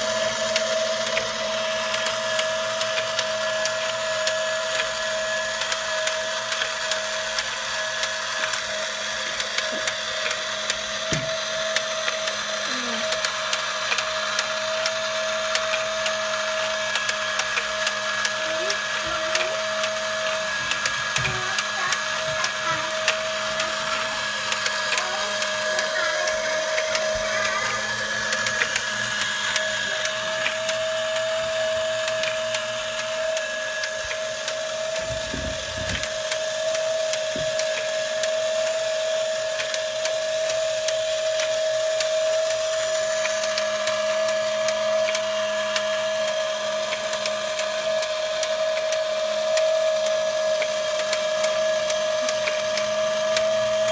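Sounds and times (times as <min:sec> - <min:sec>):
model engine whining and clicking: 0:00.0 - 0:53.9.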